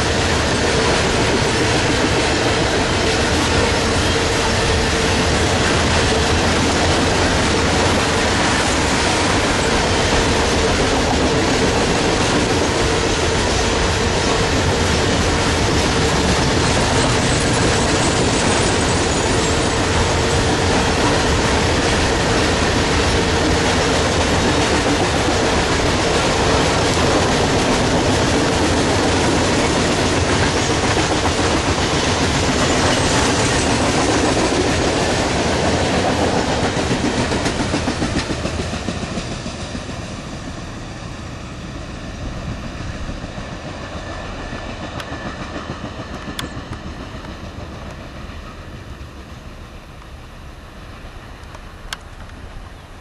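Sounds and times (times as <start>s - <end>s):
freight train wheels rumbling on rails: 0.0s - 53.0s.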